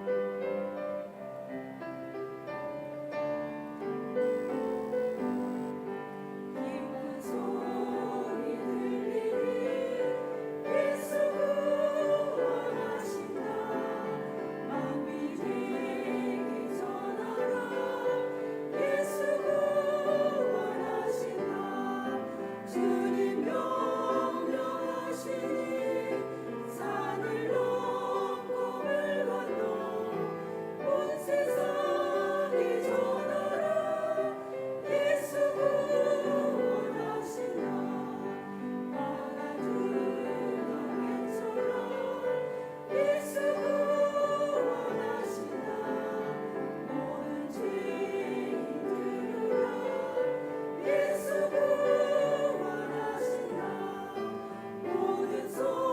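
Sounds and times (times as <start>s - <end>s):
choir singing: 0.0s - 55.9s
piano accompaniment: 0.0s - 55.9s.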